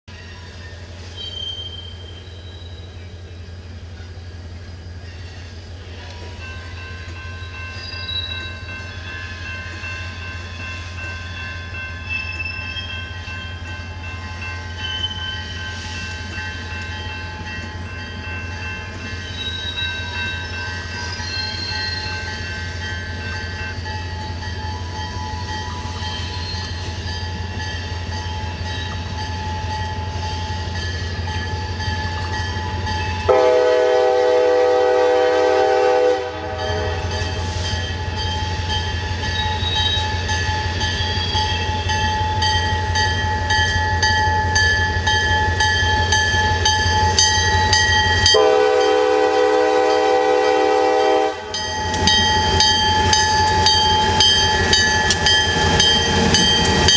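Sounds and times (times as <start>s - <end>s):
train wheels squealing: 0.1s - 33.3s, 36.6s - 48.4s, 51.8s - 56.9s.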